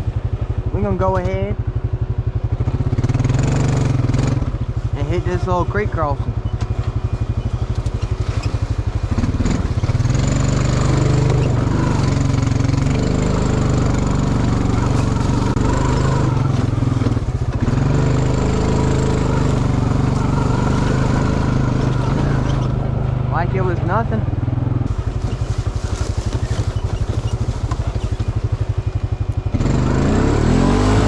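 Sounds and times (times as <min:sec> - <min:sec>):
atv engine puttering: 0:00.0 - 0:31.0.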